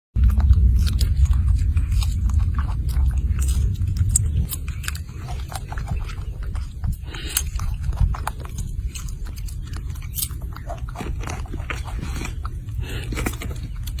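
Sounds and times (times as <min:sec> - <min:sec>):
irregular crunching clicks: 0:00.2 - 0:14.0
steady low rumble: 0:00.2 - 0:14.0.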